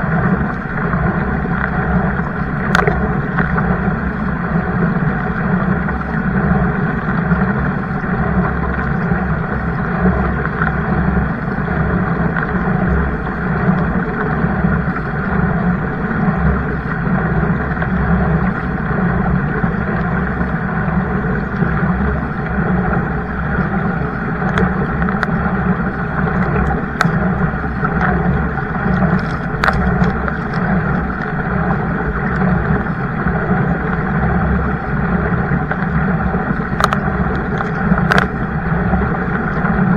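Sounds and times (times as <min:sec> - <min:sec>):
water and wind rushing: 0:00.0 - 0:39.9.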